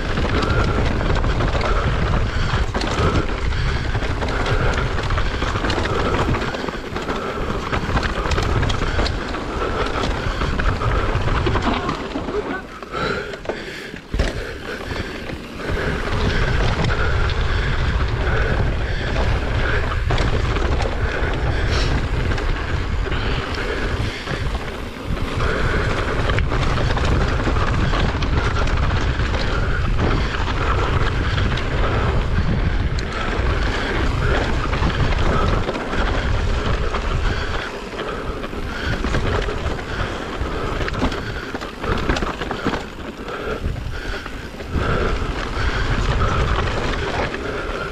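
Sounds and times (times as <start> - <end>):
bike rattling: 0.0 - 47.9
bike tyres rumbling: 0.0 - 47.9
wind buffeting microphone: 0.0 - 47.9.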